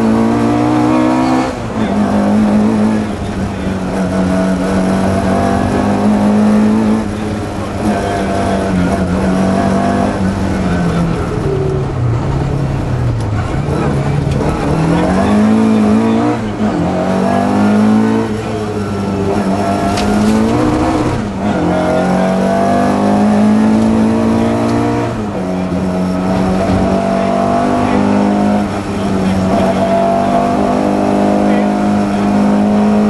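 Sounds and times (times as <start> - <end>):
rally car engine at high revs: 0.0 - 33.0.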